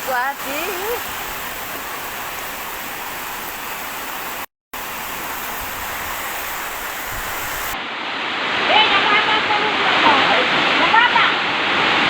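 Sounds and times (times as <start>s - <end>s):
heavy rain in strong wind: 0.0s - 12.0s.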